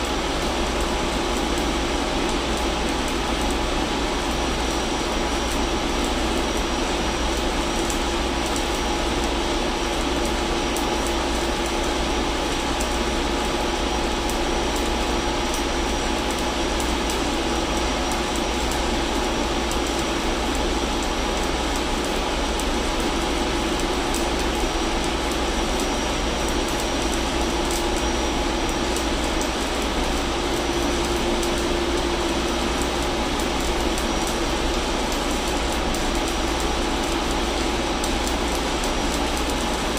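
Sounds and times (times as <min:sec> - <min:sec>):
arc welder crackling: 0:00.0 - 0:39.9
engine room machinery drone: 0:00.0 - 0:39.9
steady hum: 0:00.0 - 0:39.9.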